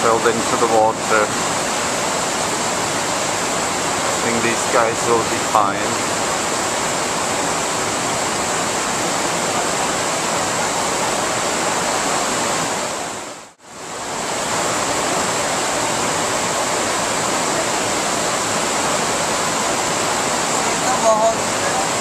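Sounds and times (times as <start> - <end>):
river water rushing over drop: 0.0 - 22.0.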